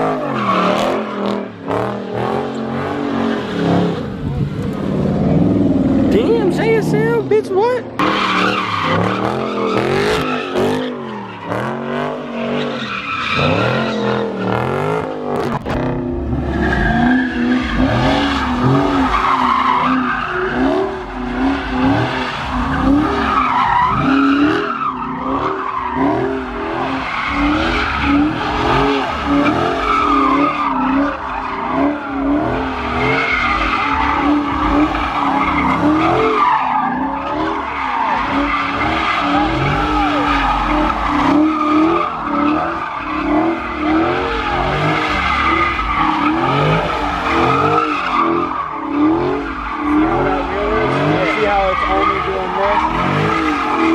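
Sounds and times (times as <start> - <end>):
car engine revving: 0.0 - 53.9
tires squealing: 0.0 - 53.9.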